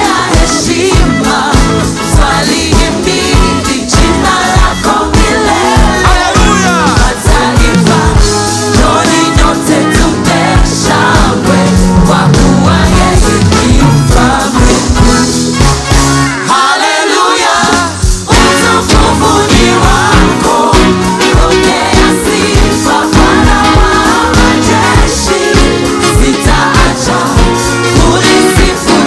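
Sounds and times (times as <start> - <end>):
band with drums and bass: 0.0 - 29.0
gospel singers: 0.0 - 29.0.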